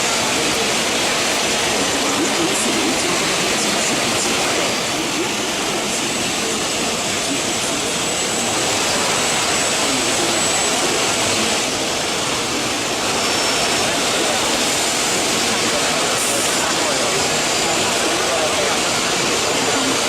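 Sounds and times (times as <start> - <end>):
cnc machine cutting: 0.0 - 20.0
thin high whine: 0.0 - 20.0.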